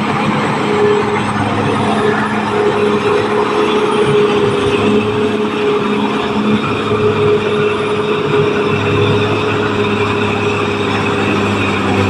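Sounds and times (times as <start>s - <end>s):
bulldozer diesel engine running: 0.0s - 12.0s
steady whine: 0.0s - 12.0s.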